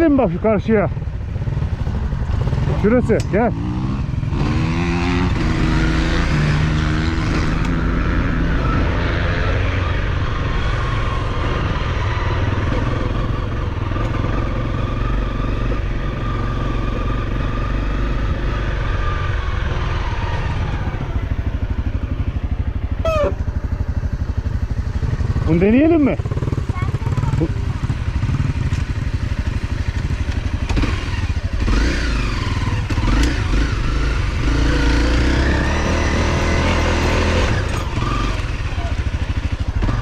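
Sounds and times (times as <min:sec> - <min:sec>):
off-road motorcycle engine: 0:00.0 - 0:40.0.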